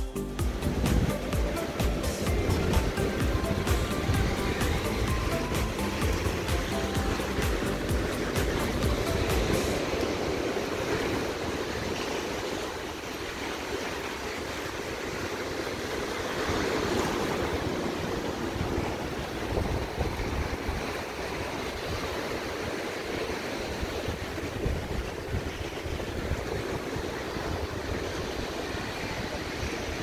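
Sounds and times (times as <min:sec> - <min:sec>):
ocean surf washing ashore: 0:00.0 - 0:30.0
wind rumbling on microphone: 0:00.4 - 0:30.0.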